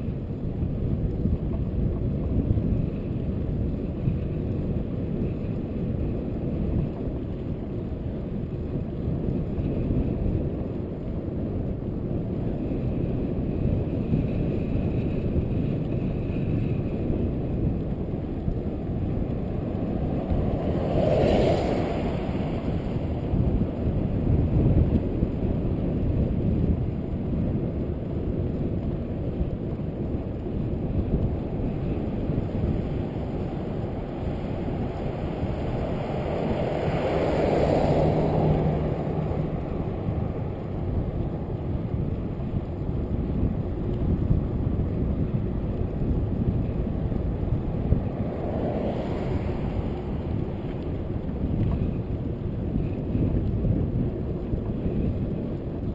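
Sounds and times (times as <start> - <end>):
road noise: 0.0 - 55.9
wind buffeting microphone: 0.0 - 55.9.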